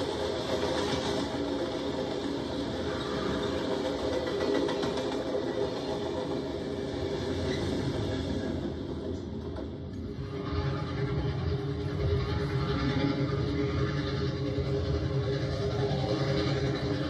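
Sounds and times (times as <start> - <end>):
diesel locomotive passing: 0.0 - 17.0
train wheels on rails: 0.0 - 17.0.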